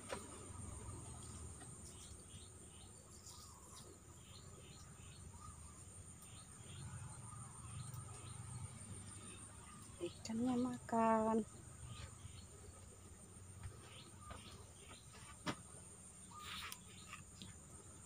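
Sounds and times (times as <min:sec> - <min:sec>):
bird chirping: 0:00.8 - 0:18.0.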